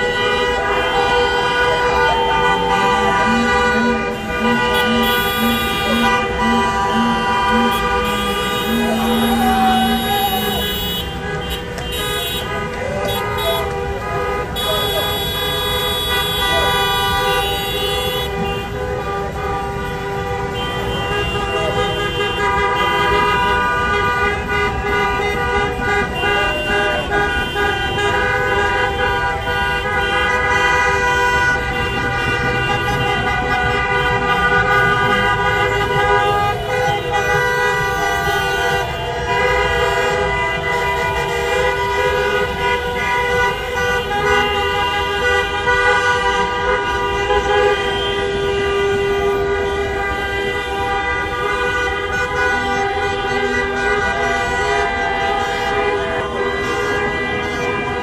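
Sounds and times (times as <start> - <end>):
many car horns honking: 0.0 - 58.0.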